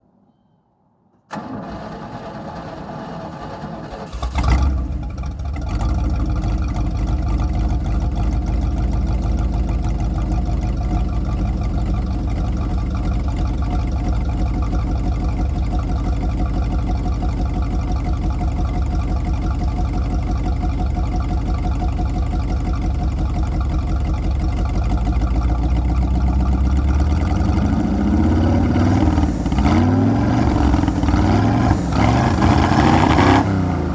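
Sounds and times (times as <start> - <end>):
starter motor cranking engine: 1.3 - 33.9
engine revving and idling: 2.8 - 33.9.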